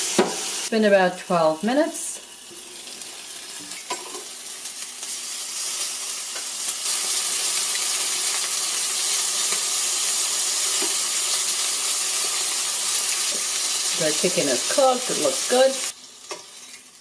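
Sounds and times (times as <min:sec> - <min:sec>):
chicken sizzling on a grill: 0:01.4 - 0:17.0.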